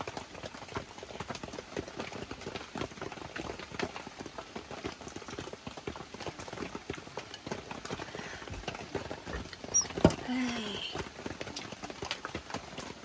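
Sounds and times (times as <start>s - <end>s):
rain pattering on a tarp: 0.0s - 13.0s.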